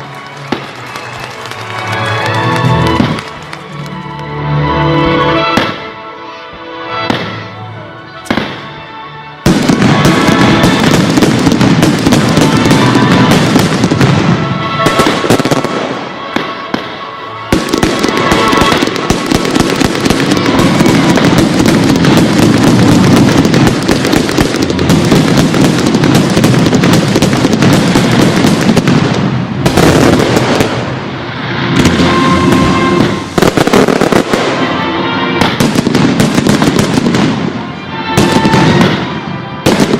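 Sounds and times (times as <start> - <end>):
fireworks bursting and crackling: 0.0 - 4.0, 5.4 - 5.9, 8.2 - 8.8, 9.4 - 39.9
show music: 0.0 - 26.8, 30.0 - 39.9.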